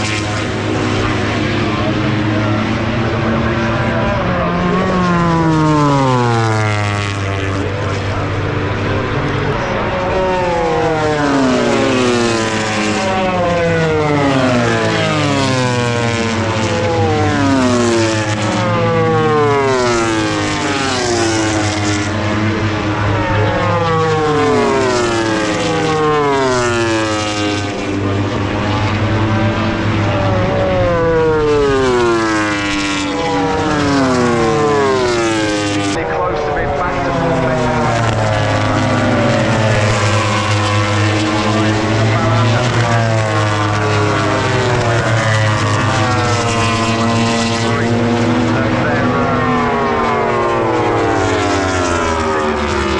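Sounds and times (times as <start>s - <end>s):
racing motorcycle engine at high revs: 0.0s - 52.9s.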